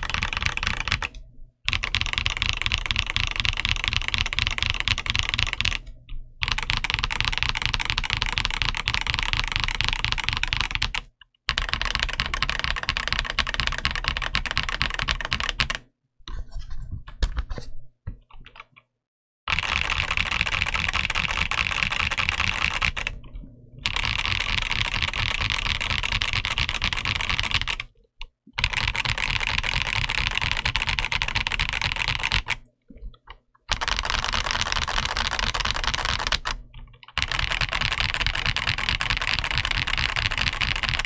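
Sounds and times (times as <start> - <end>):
mechanical keyboard typing: 0.0 - 15.9, 18.2 - 18.9, 19.5 - 41.0.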